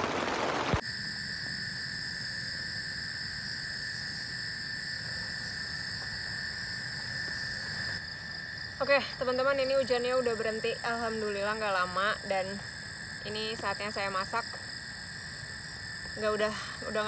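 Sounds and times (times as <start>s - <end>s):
insects trilling: 0.2s - 17.0s.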